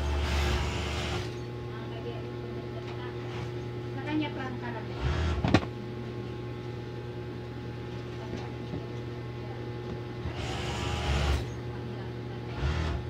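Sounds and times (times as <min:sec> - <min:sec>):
low hum with fixed tones: 0:00.0 - 0:13.0.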